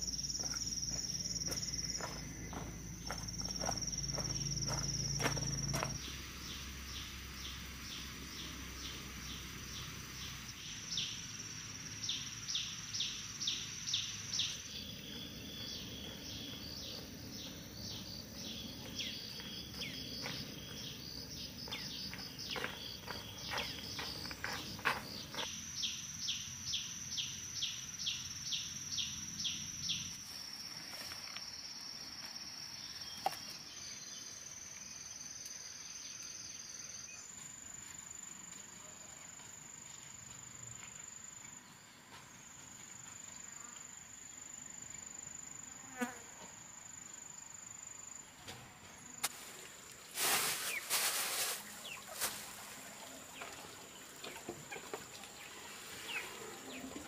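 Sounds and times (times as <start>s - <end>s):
sharp repeated insect chirps: 0.0s - 38.6s, 39.4s - 48.3s
insects droning: 0.0s - 57.0s.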